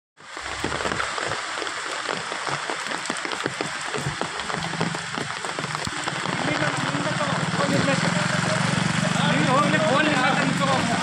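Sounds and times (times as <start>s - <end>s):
water rushing across ground: 0.2s - 11.0s
water splashes and drips: 0.2s - 11.0s.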